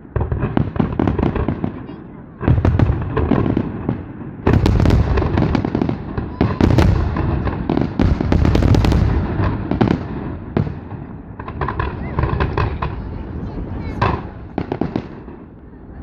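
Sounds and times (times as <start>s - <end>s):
fireworks booming and crackling: 0.0s - 16.0s.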